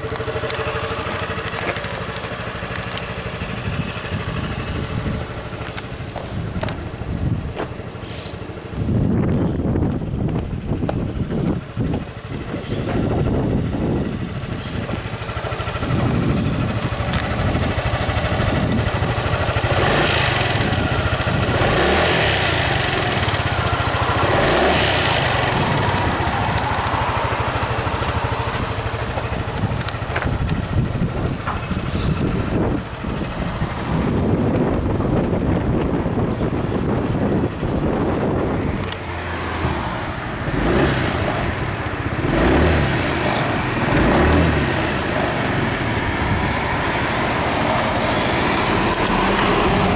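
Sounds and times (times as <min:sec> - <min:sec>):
scooter engine idling: 0:00.0 - 0:39.4, 0:40.0 - 0:49.9.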